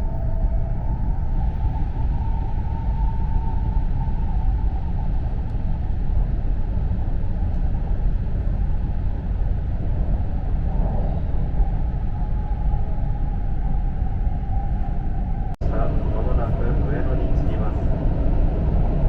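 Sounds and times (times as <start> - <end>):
faint train whine: 0.0 - 19.0
train cabin rumble: 0.0 - 19.0.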